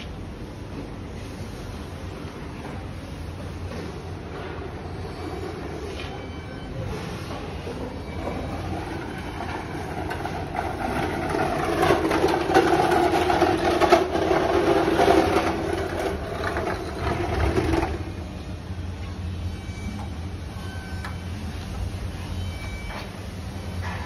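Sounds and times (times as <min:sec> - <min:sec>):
machinery humming and rattling: 0:00.0 - 0:24.0.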